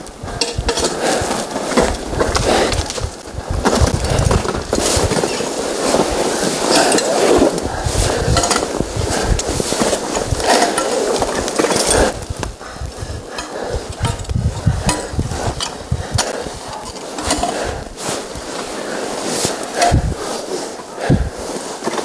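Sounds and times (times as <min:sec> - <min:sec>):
wind buffeting microphone: 0:00.0 - 0:18.6, 0:19.7 - 0:21.4
climbing gear clinking on rock: 0:00.0 - 0:18.9, 0:19.5 - 0:22.0.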